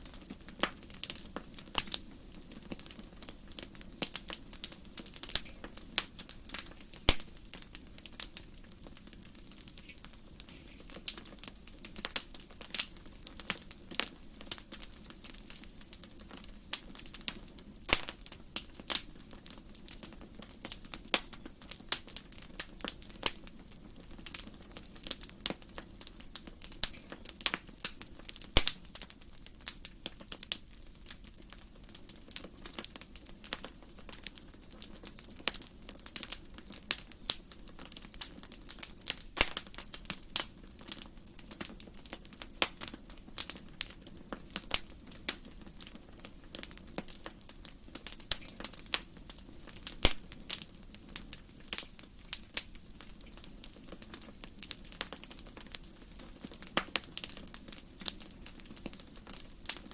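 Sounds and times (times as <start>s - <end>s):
fire crackling and popping: 0.0s - 59.9s
low hiss of flames: 0.0s - 59.9s.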